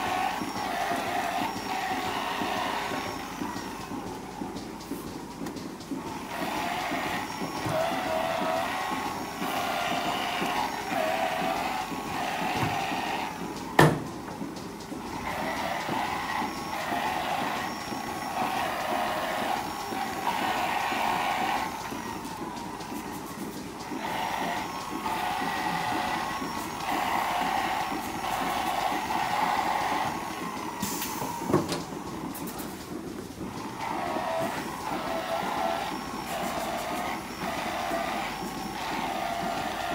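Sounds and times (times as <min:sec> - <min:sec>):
milking machinery hum and hiss: 0:00.0 - 0:39.9.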